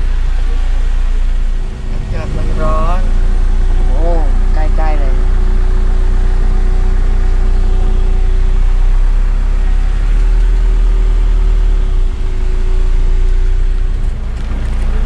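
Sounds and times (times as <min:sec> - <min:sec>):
car engine hum: 0:00.0 - 0:15.0
deep constant rumble: 0:00.0 - 0:15.0.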